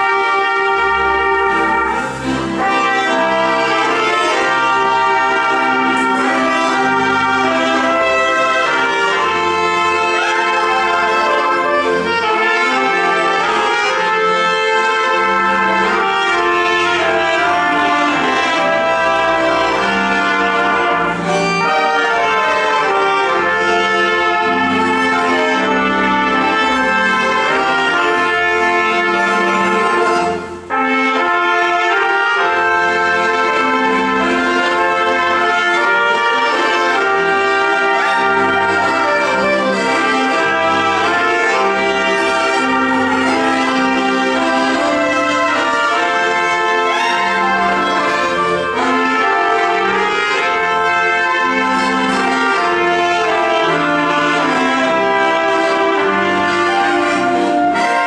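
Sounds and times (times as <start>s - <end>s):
folk band playing a hymn: 0.0s - 58.0s
trumpets leading melody: 0.0s - 58.0s.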